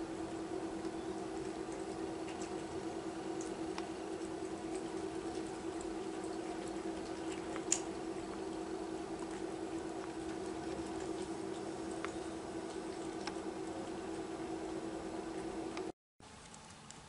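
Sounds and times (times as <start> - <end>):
low hum: 0.0 - 16.0
kittens chewing and lapping: 0.0 - 17.0.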